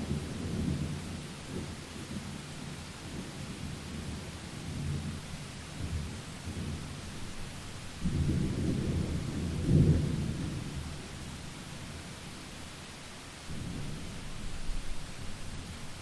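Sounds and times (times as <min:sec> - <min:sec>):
low rolling thunder: 0:00.0 - 0:07.0, 0:07.9 - 0:11.2, 0:13.5 - 0:16.0
steady rain: 0:00.0 - 0:16.0.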